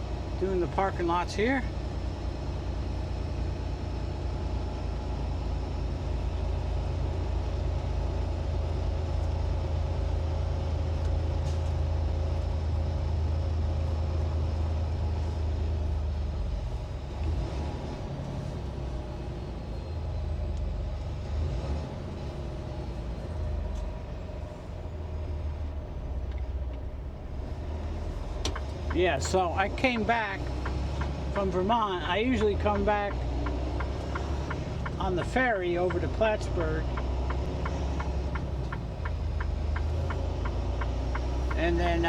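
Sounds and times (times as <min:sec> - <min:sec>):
diesel truck engine running: 0:00.0 - 0:42.0.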